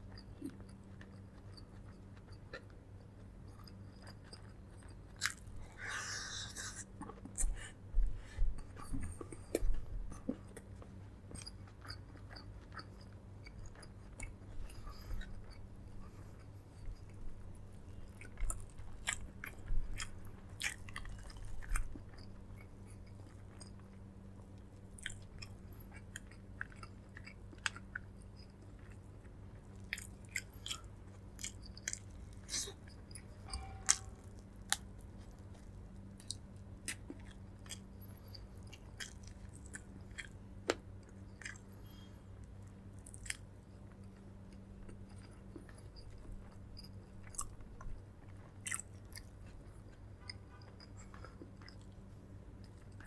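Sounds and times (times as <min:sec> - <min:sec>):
person chewing with mouth clicks: 0:00.0 - 0:53.0
steady low hum: 0:00.0 - 0:53.0.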